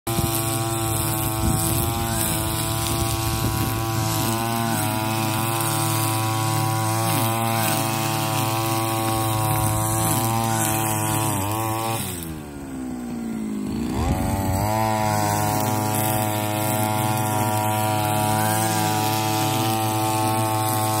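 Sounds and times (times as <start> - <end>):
brush cutter engine running: 0.1 - 21.0.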